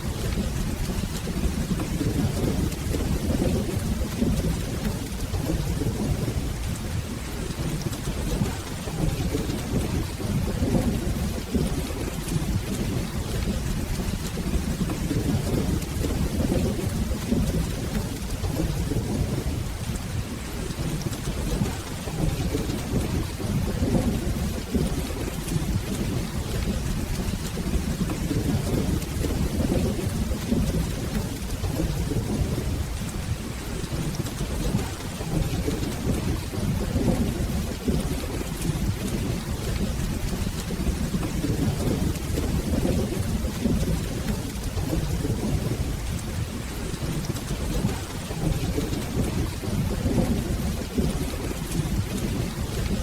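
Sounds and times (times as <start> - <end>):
low rolling thunder: 0.0 - 53.0
steady rain: 0.0 - 53.0.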